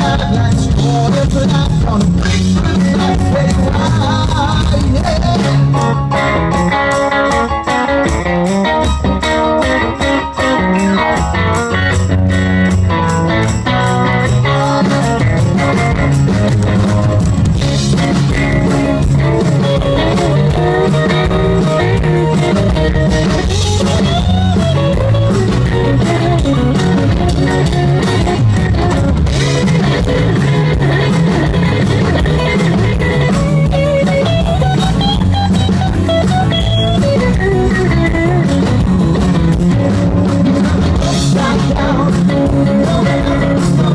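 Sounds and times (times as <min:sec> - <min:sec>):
electric guitar with bending notes: 0:00.0 - 0:43.9
rock band playing live: 0:00.0 - 0:43.9.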